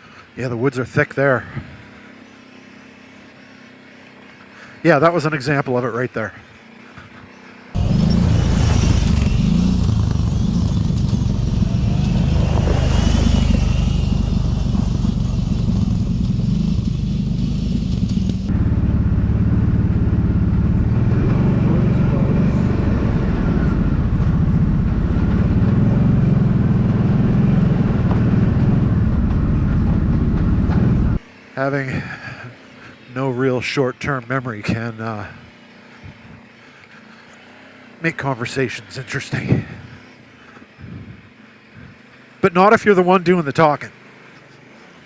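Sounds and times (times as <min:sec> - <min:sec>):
atv engine rumbling: 0:00.0 - 0:45.0.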